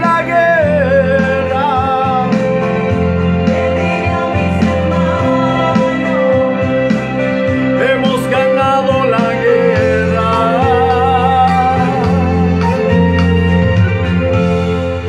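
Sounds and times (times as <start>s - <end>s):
instrumental backing with bass: 0.0s - 15.0s
person singing: 0.0s - 15.0s.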